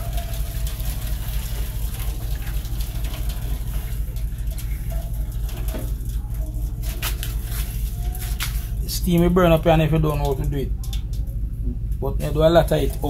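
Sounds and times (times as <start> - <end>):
water pouring into a sink: 0.0 - 10.6, 12.3 - 13.0
low hum: 0.0 - 13.0.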